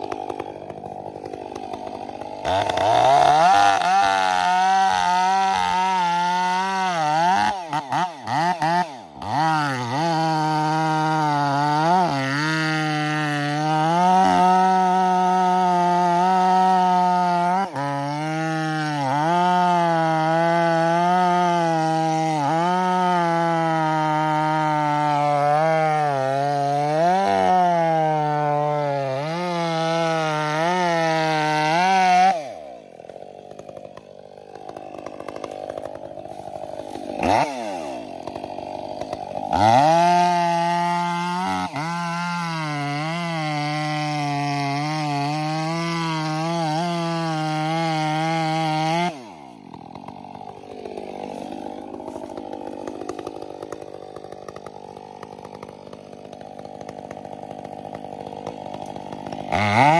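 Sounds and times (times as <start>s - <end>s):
chainsaw cutting tree trunk: 0.0s - 59.9s.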